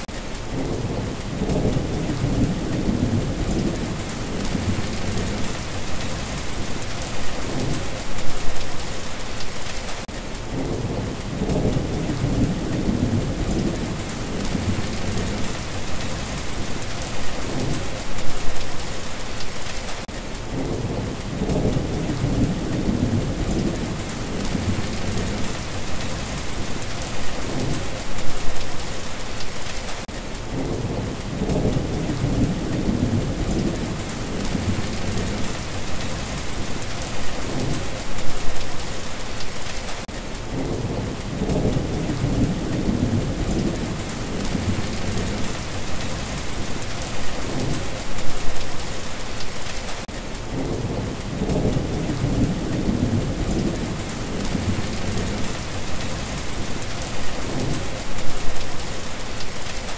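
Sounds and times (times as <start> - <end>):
thunder rumbling: 0.0 - 8.9, 10.5 - 18.8, 20.5 - 28.8, 30.5 - 38.8, 40.5 - 48.9, 50.5 - 59.6
heavy rain hissing: 0.0 - 59.9.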